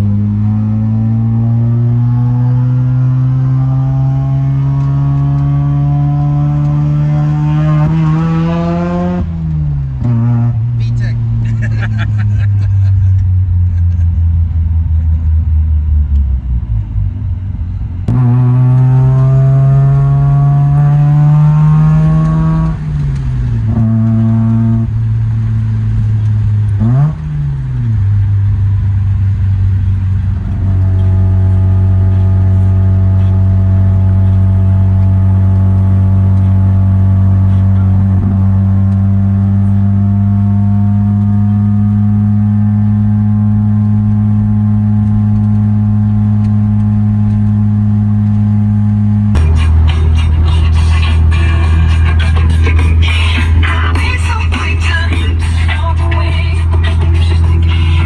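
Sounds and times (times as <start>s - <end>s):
rotary engine revving: 0.0s - 9.4s, 18.1s - 58.0s.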